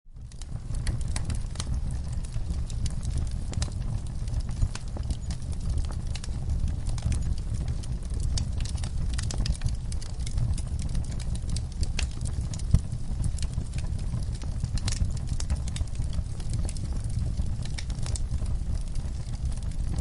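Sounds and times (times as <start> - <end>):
fire burning: 0.1 - 20.0
fire crackling and popping: 0.1 - 20.0.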